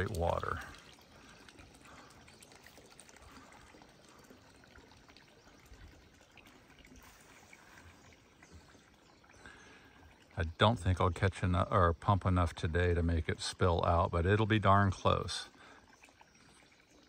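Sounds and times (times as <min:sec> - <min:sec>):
water trickling from hose into tank: 0:00.0 - 0:17.0.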